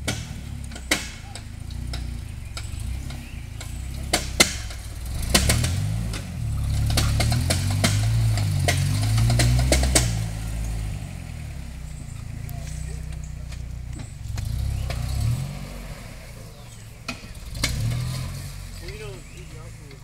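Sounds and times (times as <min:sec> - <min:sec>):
truck clicks and clunks: 0:00.0 - 0:20.0
truck engine revving: 0:00.0 - 0:20.0.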